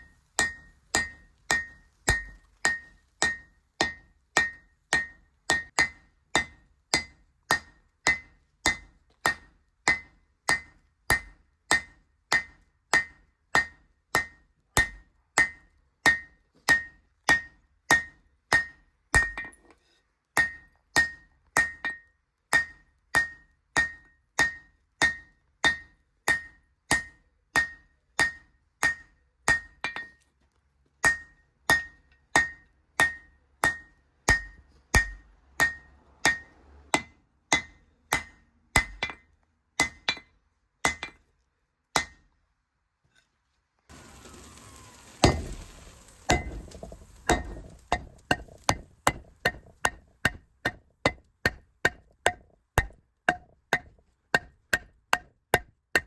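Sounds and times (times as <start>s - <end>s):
hammer striking steel on anvil: 0.0s - 19.7s, 20.4s - 30.2s, 31.0s - 41.2s, 42.0s - 42.2s, 44.7s - 56.0s.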